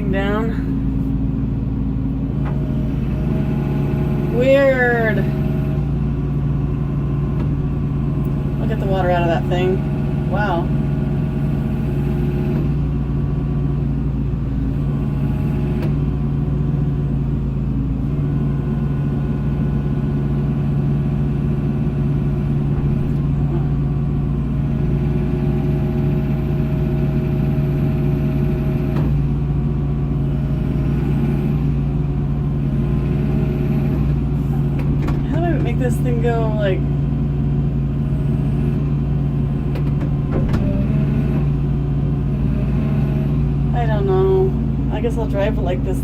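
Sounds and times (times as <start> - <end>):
excavator diesel engine running: 0.0 - 46.0
faint shifting whines: 0.0 - 46.0.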